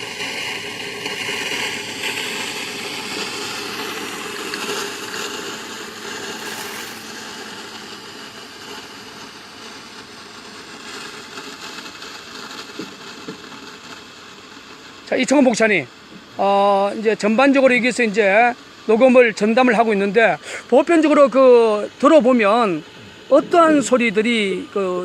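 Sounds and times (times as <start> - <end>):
steady rushing hiss: 0.0 - 25.0.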